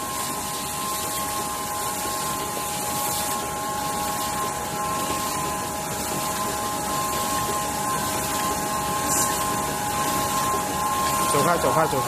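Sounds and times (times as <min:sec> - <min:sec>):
high humming tones: 0:00.0 - 0:12.0
screen printing machine running: 0:00.0 - 0:12.0.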